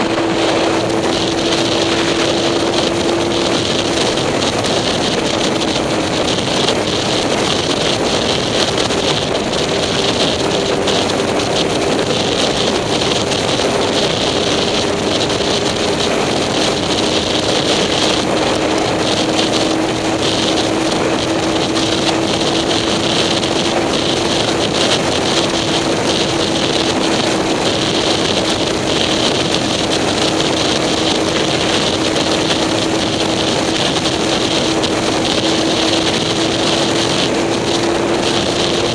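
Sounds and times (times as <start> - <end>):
road and wind noise: 0.0 - 38.9
vehicle engine hum: 0.0 - 38.9.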